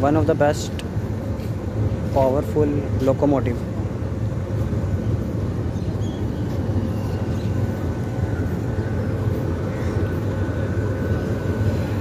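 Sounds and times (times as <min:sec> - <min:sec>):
locomotive idling rumble: 0:00.0 - 0:12.0.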